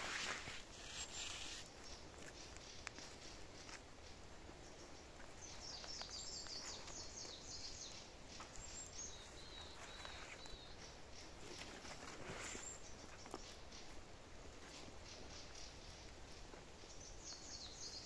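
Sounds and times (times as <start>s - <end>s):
quiet forest background: 0.0s - 18.0s
songbird singing: 0.0s - 18.0s.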